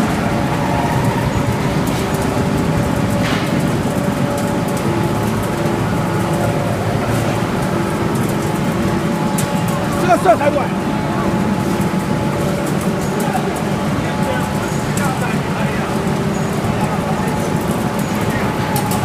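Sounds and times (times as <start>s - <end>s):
faint machine hums: 0.0s - 19.0s
industrial machinery rumbling: 0.0s - 19.0s.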